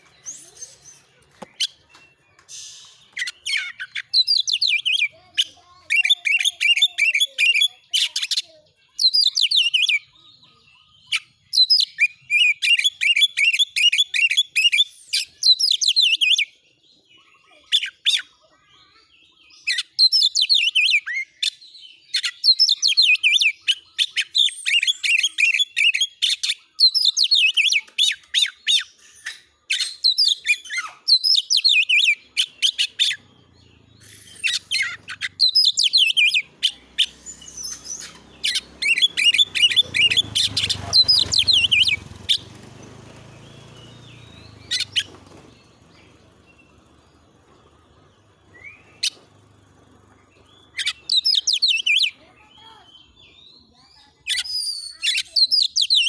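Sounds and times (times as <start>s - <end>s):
bird singing rapid high notes: 0.0s - 16.6s, 17.2s - 56.0s.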